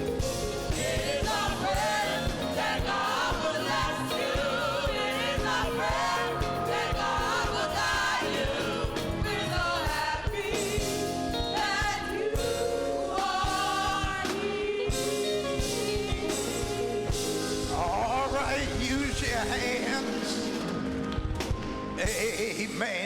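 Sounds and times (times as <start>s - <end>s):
band playing a steady beat: 0.0s - 23.0s
gospel choir singing: 0.0s - 23.0s.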